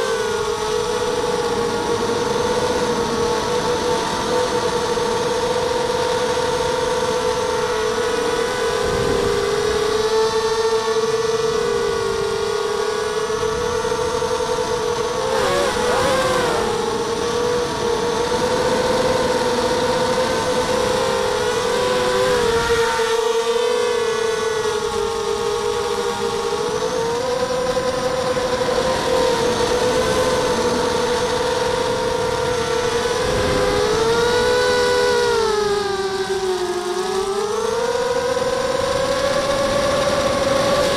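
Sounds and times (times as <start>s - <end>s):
quadcopter propellers buzzing whine: 0.0s - 40.9s.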